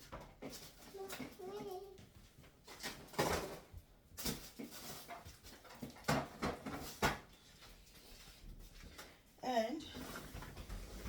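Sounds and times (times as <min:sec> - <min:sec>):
kitchen items rustling and knocking: 0:00.0 - 0:11.0.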